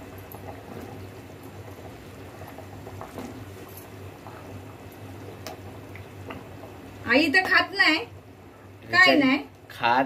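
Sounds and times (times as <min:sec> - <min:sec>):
curry bubbling in a pot: 0:00.0 - 0:08.8.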